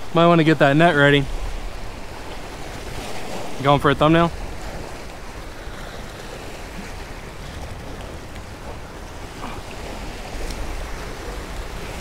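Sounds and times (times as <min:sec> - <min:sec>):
waves breaking against rocks: 0:00.0 - 0:12.0
wind rumbling on microphone: 0:00.0 - 0:12.0.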